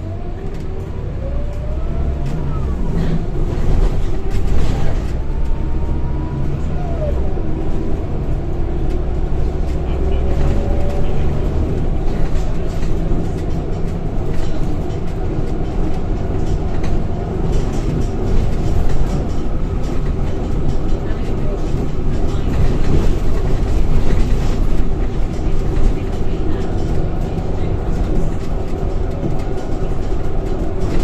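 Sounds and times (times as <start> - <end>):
bus diesel engine droning: 0.0 - 31.0.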